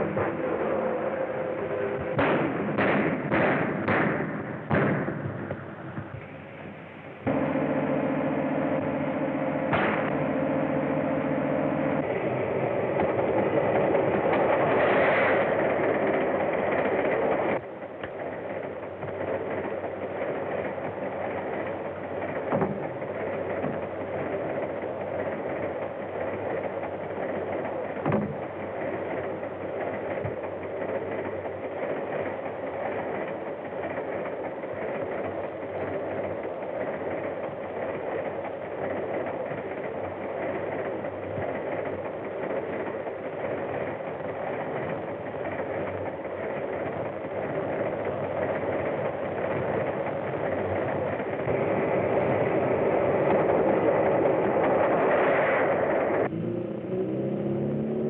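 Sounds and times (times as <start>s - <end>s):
steam train running: 0.0s - 56.5s.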